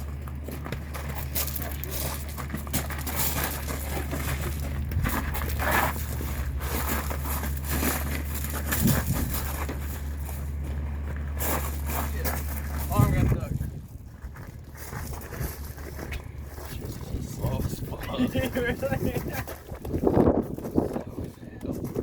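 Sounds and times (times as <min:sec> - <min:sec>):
people scuffling: 0:00.0 - 0:22.0
steady low hum: 0:00.0 - 0:22.0.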